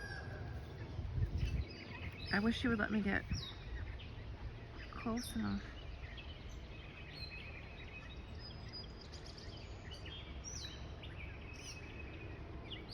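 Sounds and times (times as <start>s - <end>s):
low outdoor rumble: 0.0s - 12.9s
small birds chirping: 0.0s - 12.9s.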